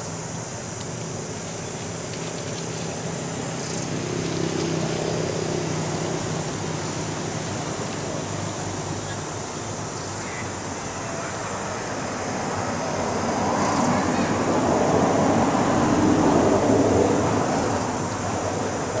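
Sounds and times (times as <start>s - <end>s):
low outdoor hum: 0.0s - 19.0s.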